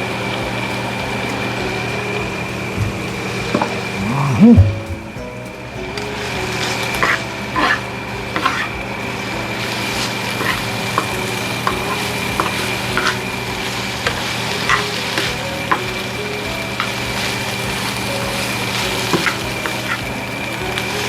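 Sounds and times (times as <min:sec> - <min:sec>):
filling sizzling in a pan: 0:00.0 - 0:21.0.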